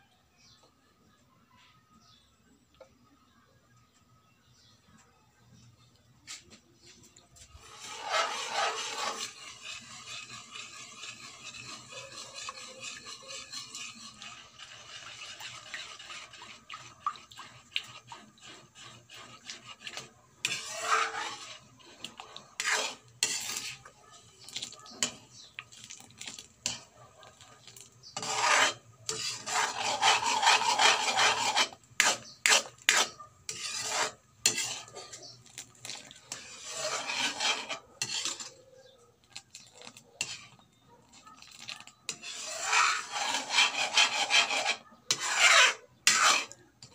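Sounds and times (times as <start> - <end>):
ladle scraping a wok: 6.8 - 38.7, 39.3 - 46.9.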